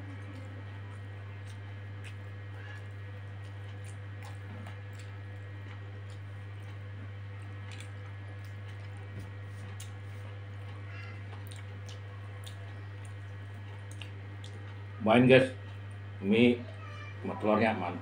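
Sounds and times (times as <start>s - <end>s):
steady low hum: 0.0s - 18.0s
person chewing with mouth clicks: 0.3s - 14.8s.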